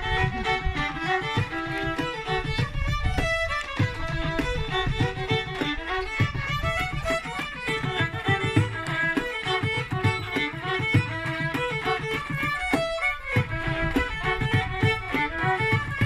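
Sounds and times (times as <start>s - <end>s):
fiddles playing dance tune: 0.0s - 16.0s
frame drum beating rhythm: 0.0s - 16.0s.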